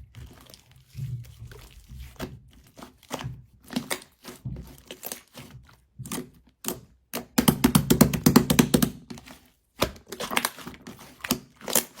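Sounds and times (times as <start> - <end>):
slime squishing and popping: 1.8 - 12.0.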